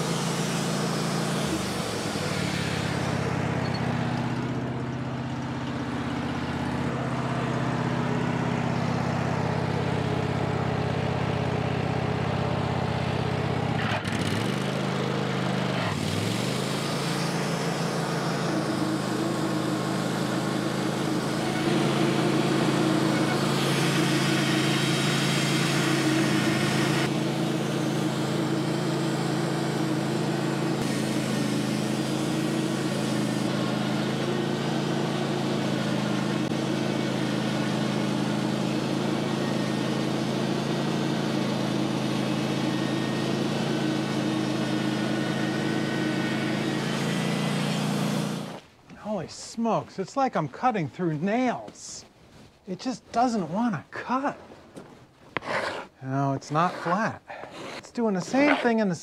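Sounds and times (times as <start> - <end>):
band saw cutting log: 0.0 - 10.2, 13.6 - 50.4, 55.3 - 59.0.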